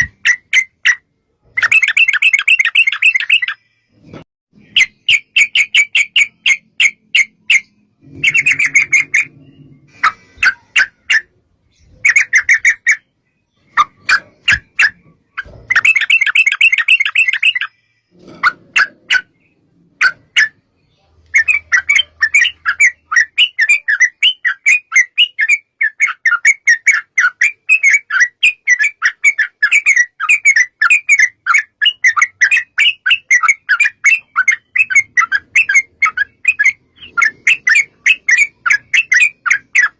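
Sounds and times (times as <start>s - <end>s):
bird chattering calls: 4.7s - 20.6s, 21.3s - 39.9s.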